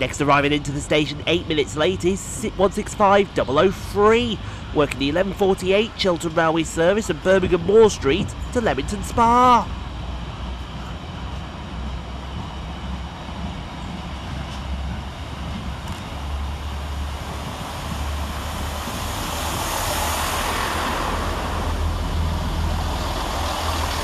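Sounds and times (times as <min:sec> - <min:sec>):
freight wagons rumbling past: 0:00.0 - 0:24.0
train engines and wheels: 0:00.0 - 0:24.0.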